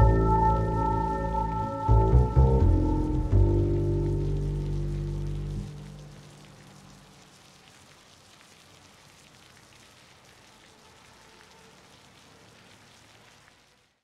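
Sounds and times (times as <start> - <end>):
faint rain pattering: 0.0 - 14.0.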